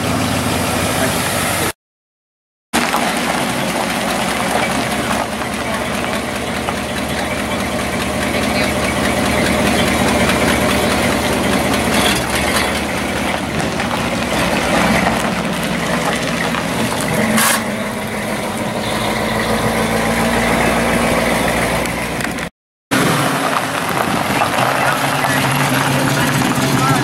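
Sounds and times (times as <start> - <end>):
car engine idling and pulling away: 0.0 - 1.7, 2.8 - 27.0
another car engine: 0.0 - 1.8, 2.8 - 27.0.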